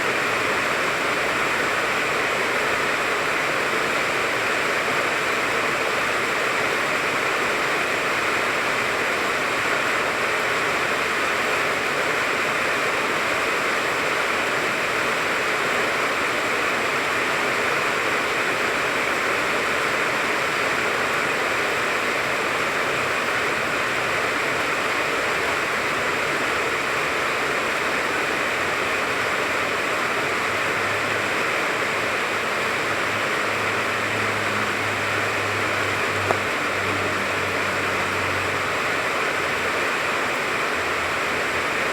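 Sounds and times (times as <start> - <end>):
rain falling on leaves: 0.0 - 41.9.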